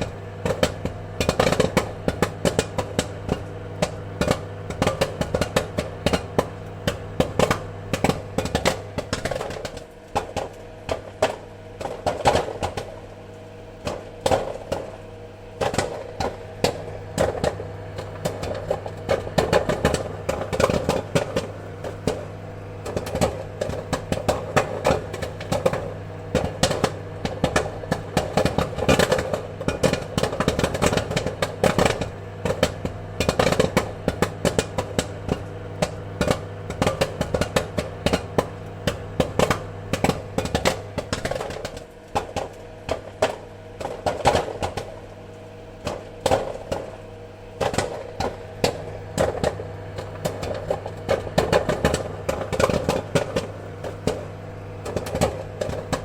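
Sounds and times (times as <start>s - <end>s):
popcorn kernels popping: 0.0s - 56.0s
steady hum: 0.0s - 56.0s.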